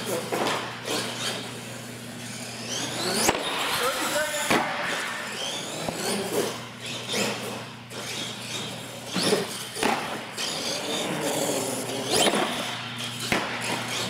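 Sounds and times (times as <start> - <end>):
toy truck motor running: 0.0 - 4.4, 5.0 - 14.0.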